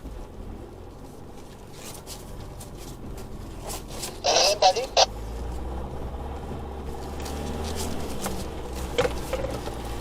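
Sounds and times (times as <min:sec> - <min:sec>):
diesel engine running at low revs: 0:00.0 - 0:10.0.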